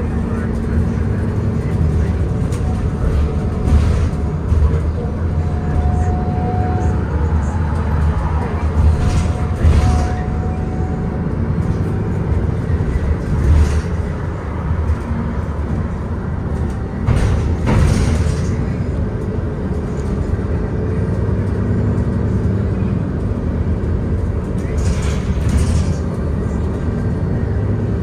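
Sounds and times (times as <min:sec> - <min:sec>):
bus drivetrain and road rumble: 0:00.0 - 0:28.0.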